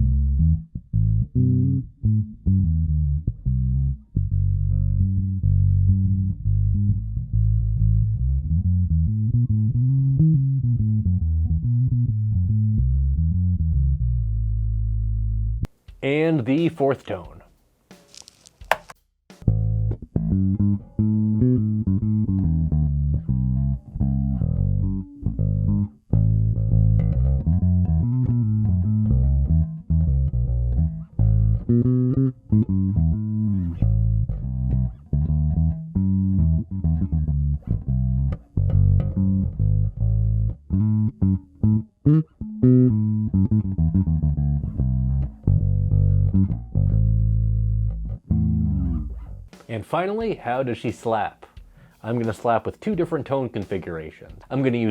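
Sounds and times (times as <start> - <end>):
electric bass playing notes: 0.0 - 15.7, 19.4 - 49.6.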